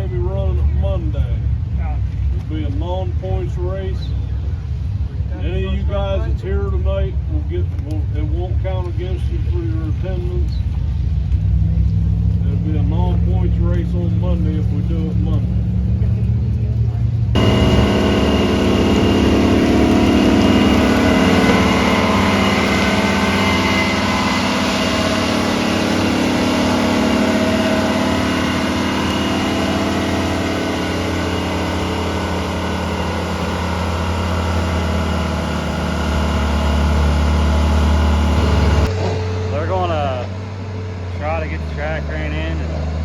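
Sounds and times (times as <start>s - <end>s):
car engines droning: 0.0s - 43.0s.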